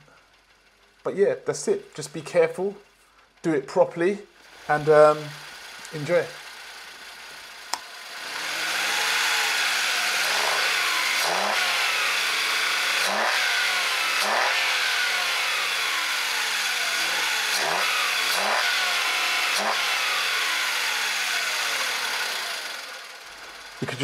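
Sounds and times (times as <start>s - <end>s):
car engine revving: 4.5s - 24.0s.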